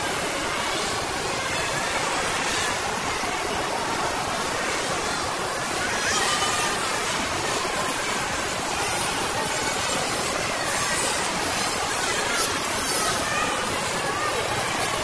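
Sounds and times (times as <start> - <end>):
background noise wash: 0.0 - 15.0
indistinct crowd voices: 0.0 - 15.0.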